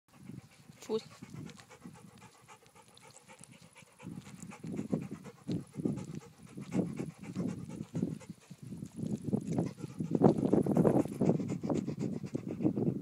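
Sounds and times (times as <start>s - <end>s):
dog panting: 0.1s - 13.0s.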